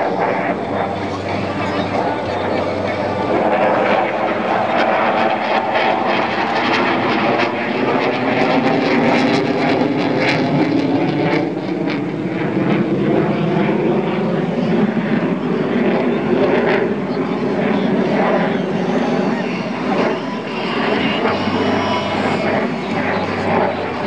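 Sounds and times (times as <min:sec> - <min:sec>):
fighter jet flying overhead: 0:00.0 - 0:24.0.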